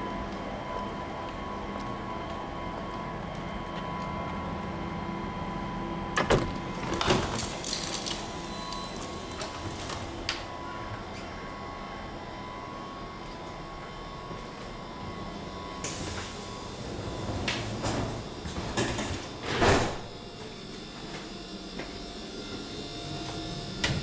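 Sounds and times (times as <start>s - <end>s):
electrical and ventilation hum: 0.0s - 24.0s.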